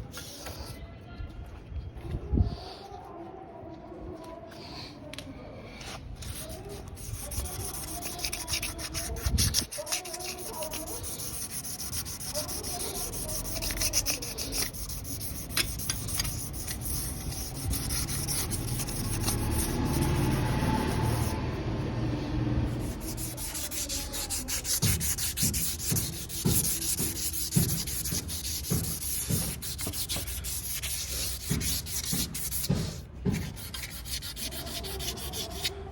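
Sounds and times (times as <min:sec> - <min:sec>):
sanding scraping strokes: 0:06.2 - 0:21.7, 0:22.4 - 0:35.9.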